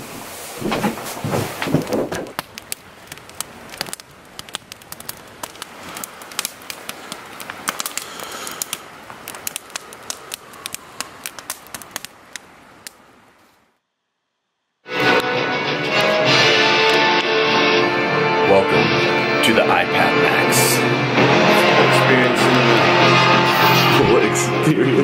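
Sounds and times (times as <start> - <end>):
campfire crackling: 1.0 - 13.8, 14.9 - 25.0.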